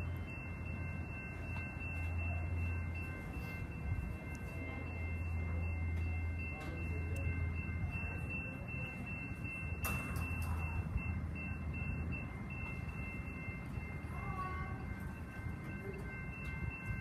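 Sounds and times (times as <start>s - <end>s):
level crossing warning bells: 0.0s - 17.0s.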